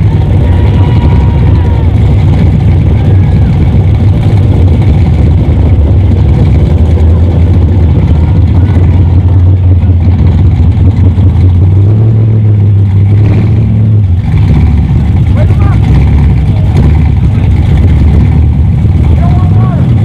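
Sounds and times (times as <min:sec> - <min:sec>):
engine revving higher: 0:00.0 - 0:20.0
muscle car engines idling: 0:00.0 - 0:20.0.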